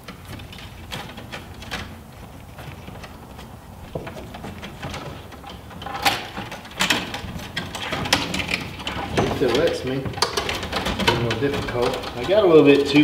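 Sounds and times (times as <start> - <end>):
wire scraping against metal: 0.0 - 13.0.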